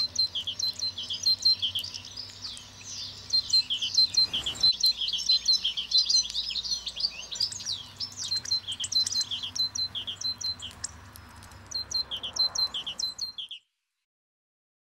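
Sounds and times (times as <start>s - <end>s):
songbirds chirping: 0.0s - 13.7s.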